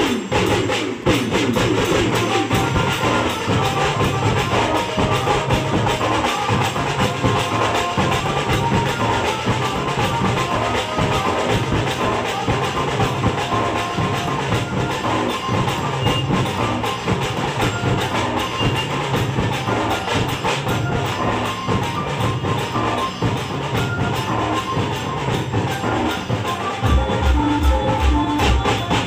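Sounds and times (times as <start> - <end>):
barrel drums beating fast rhythm: 0.0 - 29.0
folk melody line: 2.1 - 29.0.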